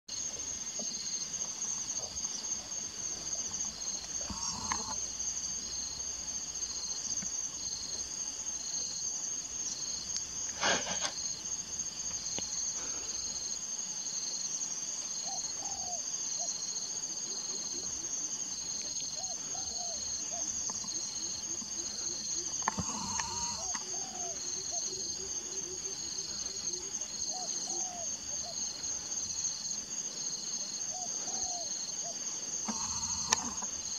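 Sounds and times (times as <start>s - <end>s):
insect chorus: 0.1s - 33.9s
pulsing insect call: 0.1s - 33.9s.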